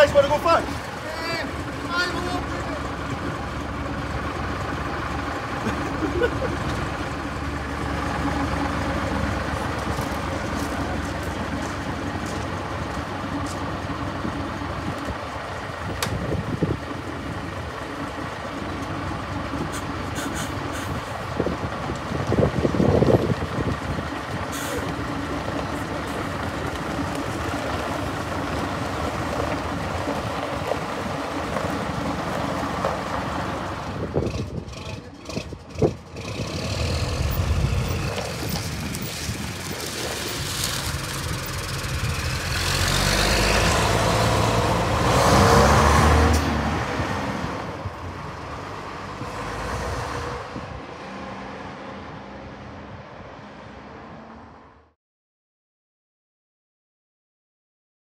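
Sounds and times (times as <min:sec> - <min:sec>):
diesel bus engines: 0:00.0 - 0:55.0.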